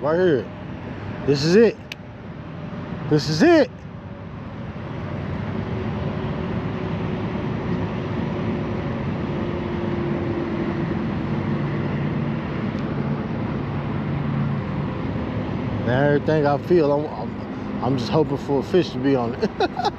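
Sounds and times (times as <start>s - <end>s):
low engine drone: 0.0s - 19.9s.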